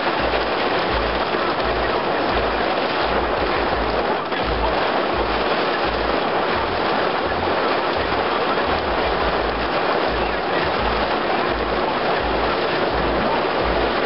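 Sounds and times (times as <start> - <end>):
heavy rain hissing: 0.0 - 14.0
wind buffeting microphone: 0.0 - 14.0.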